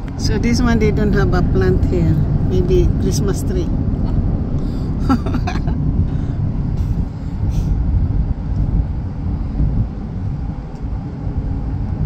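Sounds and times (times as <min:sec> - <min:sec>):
tyres rumbling on highway: 0:00.0 - 0:12.0.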